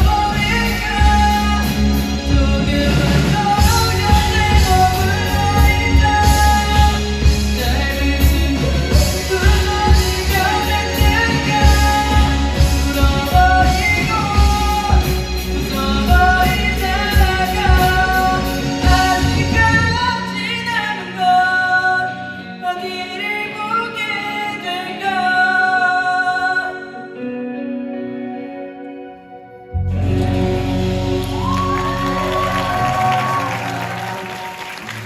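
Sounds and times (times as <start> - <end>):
person singing: 0.0 - 35.0
rock band playing pop ballad: 0.0 - 35.0.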